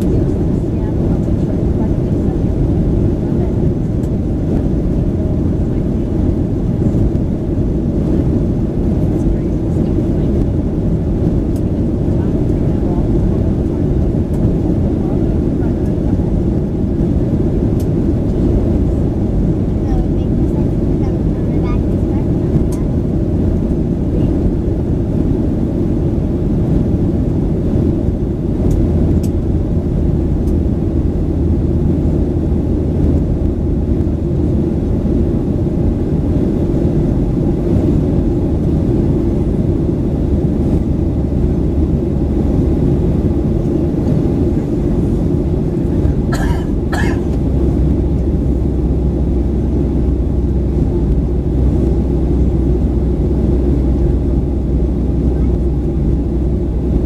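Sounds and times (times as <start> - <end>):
jet engine cabin drone: 0.0 - 57.0.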